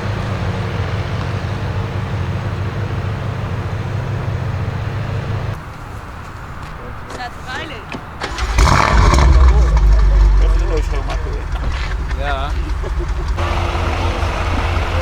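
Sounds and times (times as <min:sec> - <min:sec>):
car engine idling: 0:00.0 - 0:05.6, 0:08.2 - 0:15.0.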